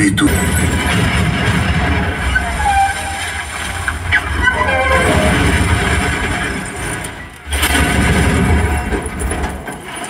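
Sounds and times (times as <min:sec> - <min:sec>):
action film soundtrack explosions: 0:00.0 - 0:09.7.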